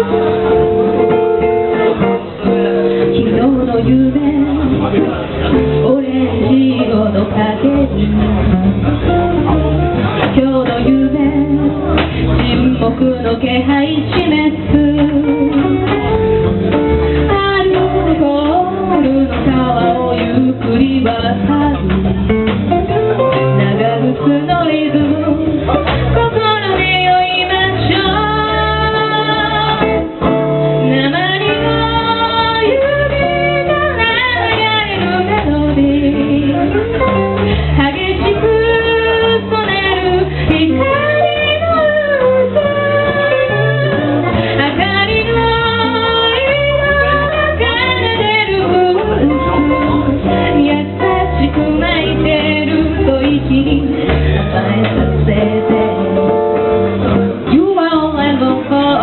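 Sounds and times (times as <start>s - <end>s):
guitar: 0.0s - 59.0s
steady bass line: 0.0s - 59.0s.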